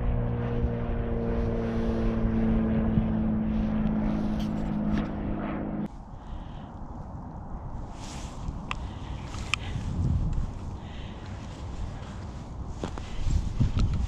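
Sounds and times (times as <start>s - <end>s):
engine drone: 0.0s - 14.0s
wind: 0.0s - 14.0s.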